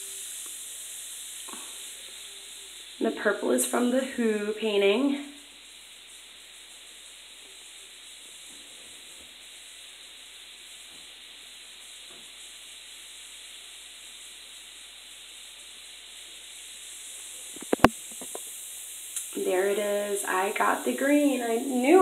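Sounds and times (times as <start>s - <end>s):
bath bomb fizzing: 0.0s - 22.0s.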